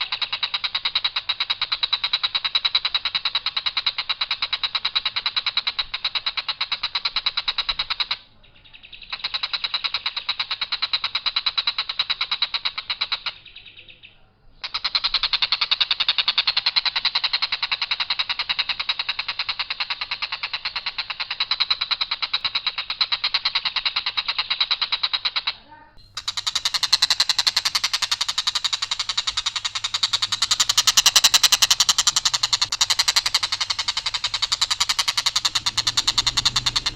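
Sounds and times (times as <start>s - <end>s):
kingfisher rattling call: 0.0s - 8.2s, 8.9s - 13.5s, 14.6s - 36.9s.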